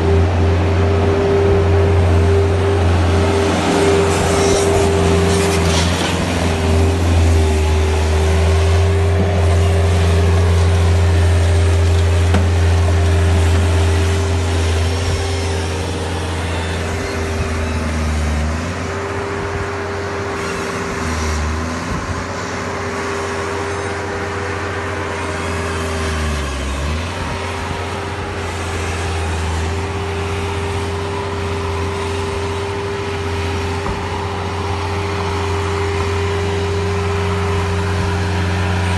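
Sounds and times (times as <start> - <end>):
skid-steer loader engine: 0.0 - 38.9.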